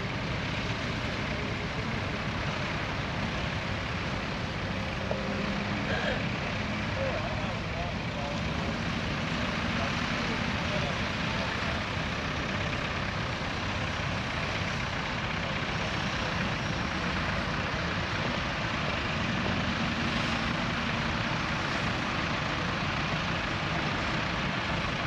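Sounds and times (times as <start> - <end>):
lorry engines running: 0.0 - 25.0.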